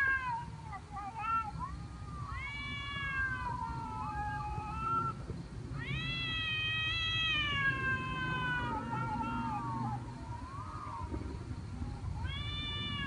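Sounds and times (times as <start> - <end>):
cat meowing: 0.0 - 5.2, 5.8 - 11.1, 12.1 - 13.0.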